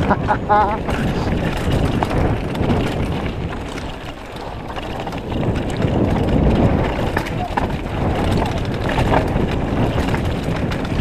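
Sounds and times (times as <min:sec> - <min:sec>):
tyres rumbling on dirt: 0:00.0 - 0:11.0
wind rushing over microphone: 0:00.0 - 0:11.0.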